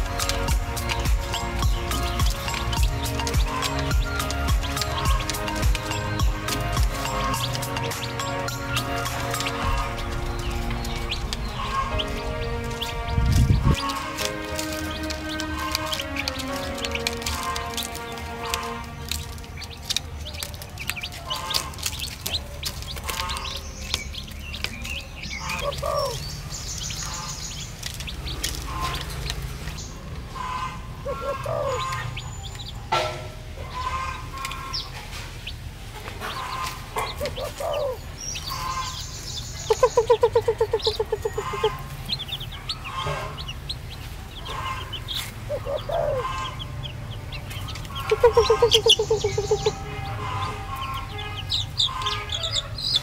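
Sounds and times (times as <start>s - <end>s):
baby chicks peeping: 0.0s - 53.0s.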